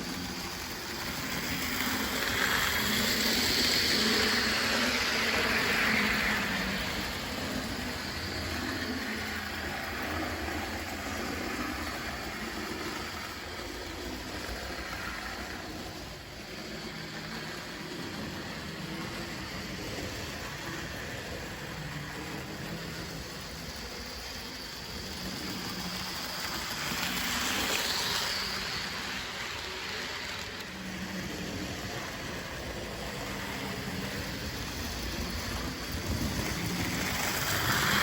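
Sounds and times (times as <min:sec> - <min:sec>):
model train running on track: 0:00.0 - 0:38.0.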